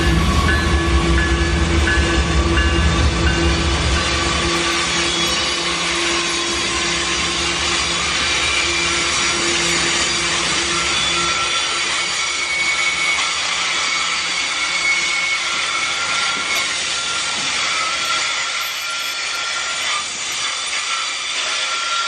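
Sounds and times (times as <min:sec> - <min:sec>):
steel wheels rushing on rail: 0:00.0 - 0:22.0
thin whining tones: 0:00.0 - 0:22.0.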